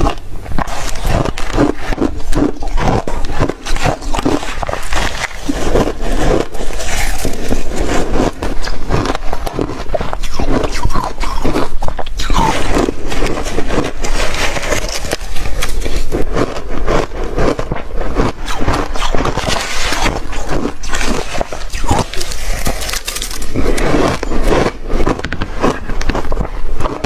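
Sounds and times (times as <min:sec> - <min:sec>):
chewing crunchy ice: 0:00.0 - 0:27.0.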